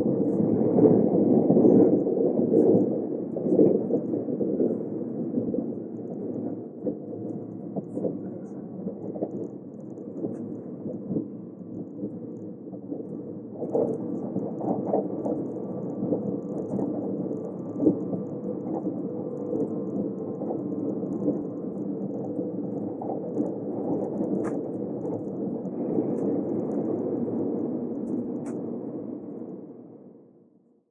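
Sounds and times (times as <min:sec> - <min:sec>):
faint steady hum: 0:00.0 - 0:30.8.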